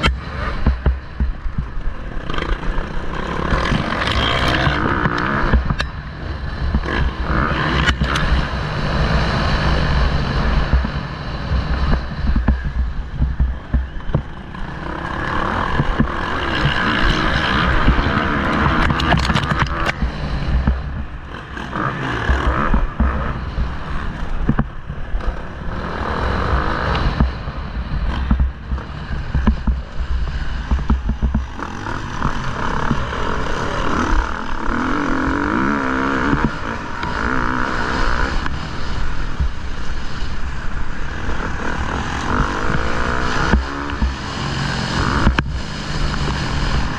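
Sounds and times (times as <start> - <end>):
motorbike engine revving: 0.0 - 46.9
wind buffeting microphone: 0.0 - 46.9.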